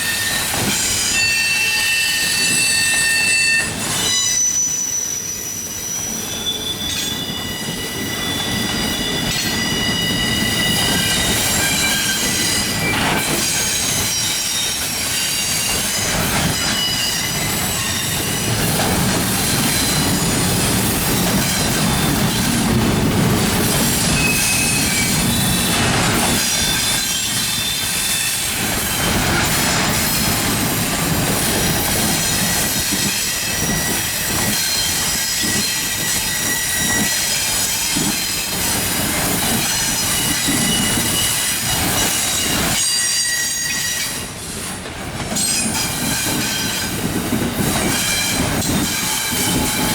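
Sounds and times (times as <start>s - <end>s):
wheel flange squeals: 0.0s - 22.6s, 23.6s - 30.7s, 31.6s - 44.7s
train cars rumbling: 0.0s - 49.9s.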